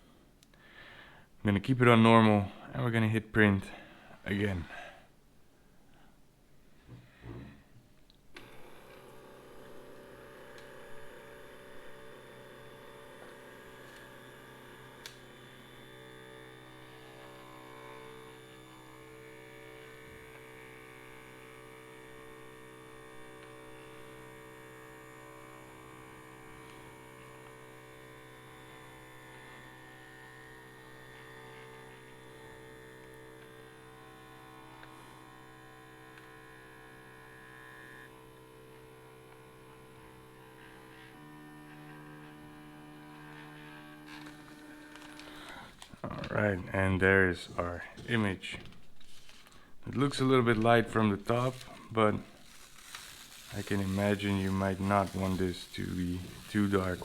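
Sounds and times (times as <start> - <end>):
printer motor whirring: 8.4 - 46.4, 47.9 - 57.0.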